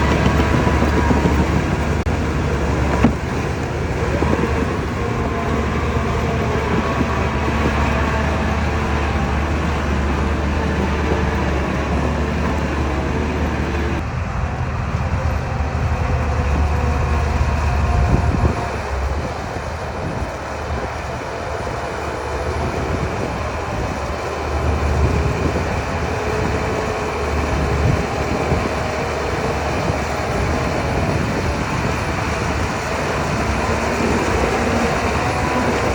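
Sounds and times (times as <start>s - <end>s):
bulldozer diesel engine droning: 0.0s - 35.9s
heavy mechanical rumble: 0.0s - 35.9s.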